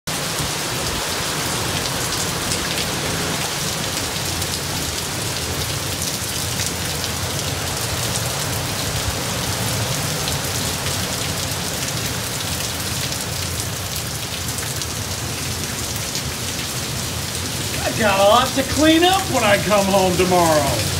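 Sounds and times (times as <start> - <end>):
heavy rain pouring: 0.1 - 20.9.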